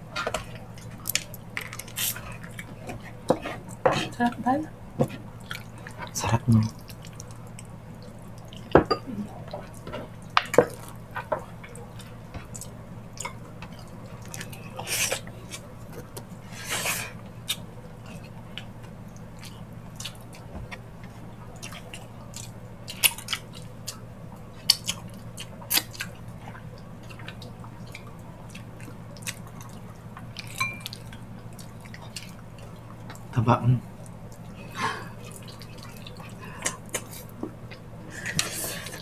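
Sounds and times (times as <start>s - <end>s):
steady low hum: 0.0s - 39.0s
wet chewing and smacking: 0.2s - 4.0s, 5.1s - 8.7s, 9.4s - 16.4s, 17.2s - 39.0s.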